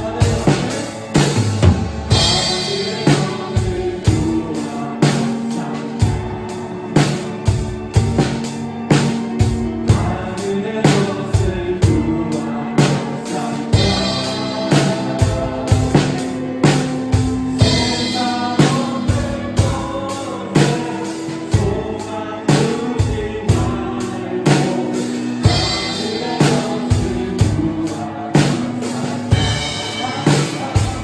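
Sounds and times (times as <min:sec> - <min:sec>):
drum kit playing: 0:00.0 - 0:31.0
worship song with singing: 0:00.0 - 0:31.0.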